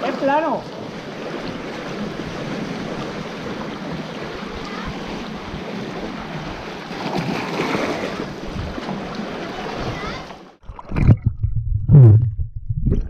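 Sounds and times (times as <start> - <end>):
small waves splashing over rocks: 0.0 - 10.6.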